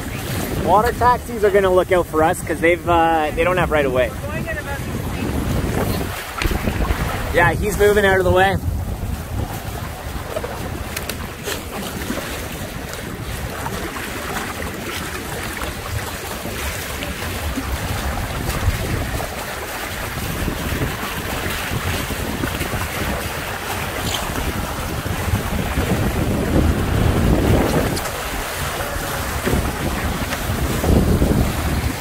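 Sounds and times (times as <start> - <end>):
water rushing past hulls: 0.0 - 32.0
wind buffeting microphone: 0.0 - 32.0.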